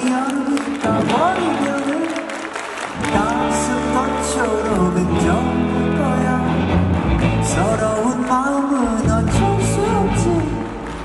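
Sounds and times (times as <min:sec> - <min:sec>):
man singing a ballad: 0:00.0 - 0:06.8, 0:07.4 - 0:10.9
live band accompaniment: 0:00.0 - 0:11.0.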